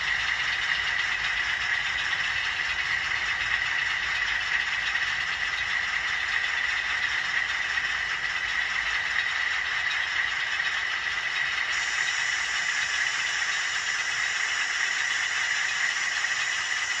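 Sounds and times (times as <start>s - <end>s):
model train wheels and motor whirring: 0.0s - 17.0s.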